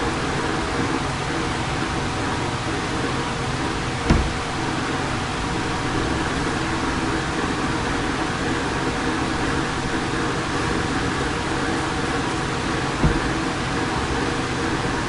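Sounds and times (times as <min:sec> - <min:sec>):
continuous hiss: 0:00.0 - 0:15.0
low hum: 0:00.8 - 0:15.0.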